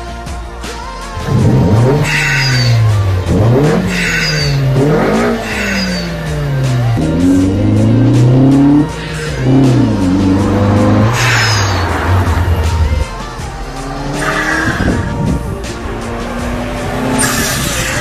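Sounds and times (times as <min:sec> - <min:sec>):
car engine revving: 0:01.1 - 0:18.0
short high squeals: 0:01.4 - 0:15.7, 0:17.1 - 0:18.0.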